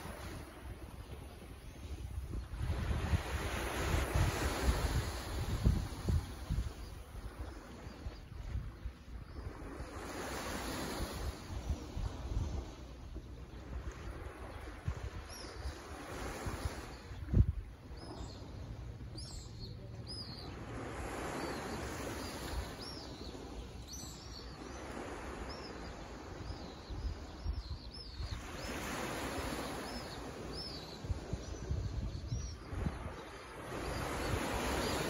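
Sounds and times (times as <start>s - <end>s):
small waves washing on beach: 0.0s - 35.0s.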